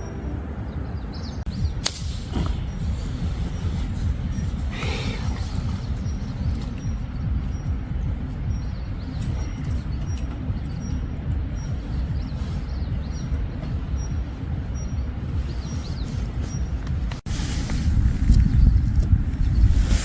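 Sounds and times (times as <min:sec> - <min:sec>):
low rumble of wind: 0:00.0 - 0:20.0.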